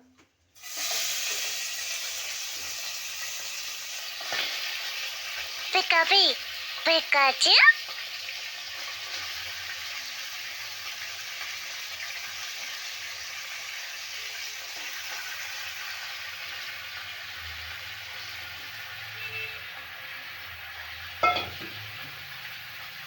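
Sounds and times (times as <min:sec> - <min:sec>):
chicken sizzling in hot oil: 0:00.6 - 0:23.0.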